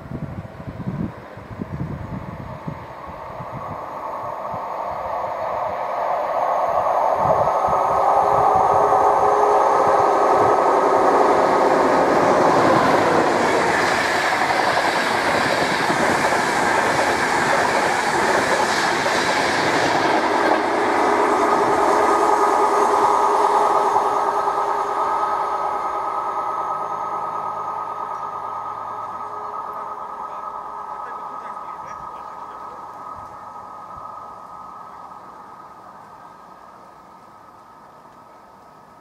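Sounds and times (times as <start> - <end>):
train wheels rushing on rail: 0.0 - 39.0.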